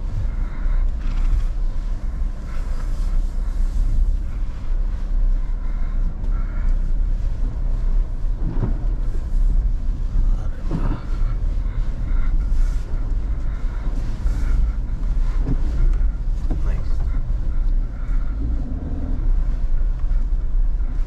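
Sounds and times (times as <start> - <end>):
car engine and tyres droning: 0.0 - 21.0.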